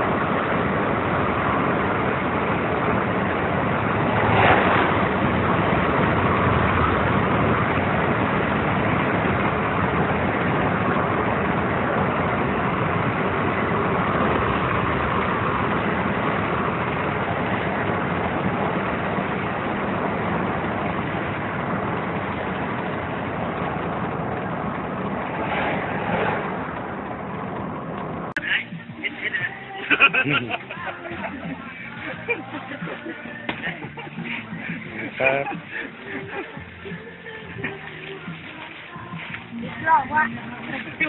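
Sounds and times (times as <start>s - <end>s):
road and wind noise inside vehicle: 0.0s - 41.0s.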